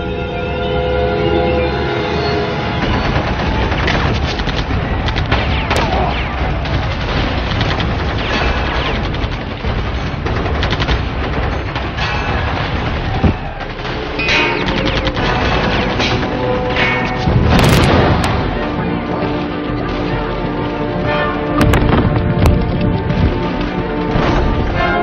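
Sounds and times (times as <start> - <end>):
music: 0.0 - 25.0
rapid gunfire: 2.7 - 24.7.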